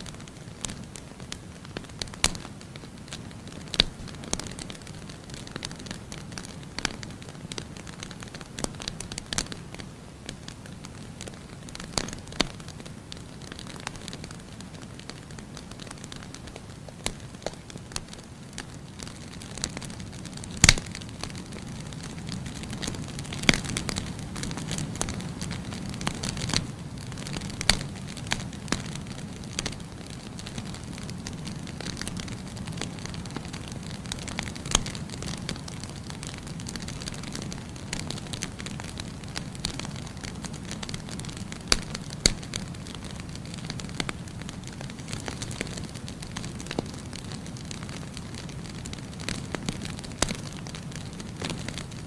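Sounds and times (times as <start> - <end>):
burning logs crackling and popping: 0.0 - 52.0
hiss of fireplace flames: 0.0 - 52.0.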